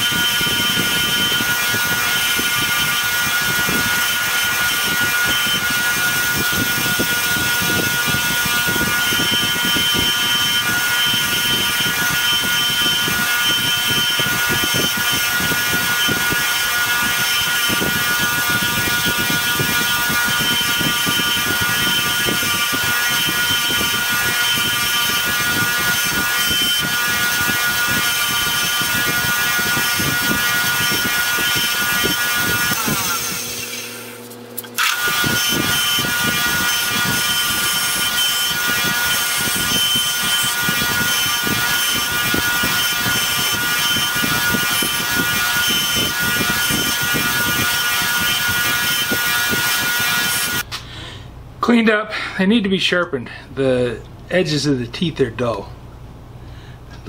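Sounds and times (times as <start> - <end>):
grinder motor whine: 0.0 - 50.7
wire wheel scratching metal: 0.0 - 50.7.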